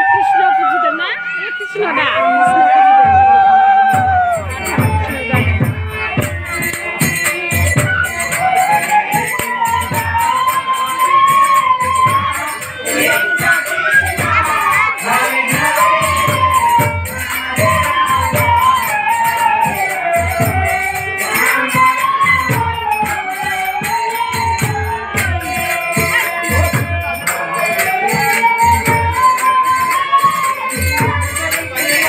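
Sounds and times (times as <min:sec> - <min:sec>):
jingling percussion: 0:00.1 - 0:32.0
person singing: 0:01.6 - 0:32.0.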